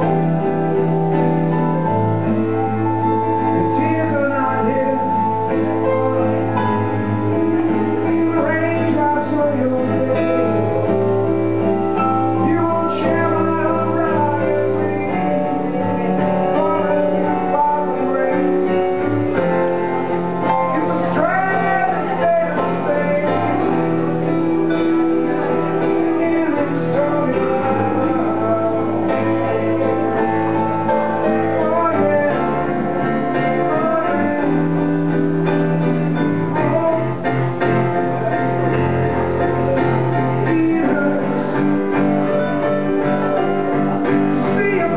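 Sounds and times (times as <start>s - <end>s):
acoustic guitar: 0.0s - 44.9s
keyboard chords: 0.0s - 44.9s.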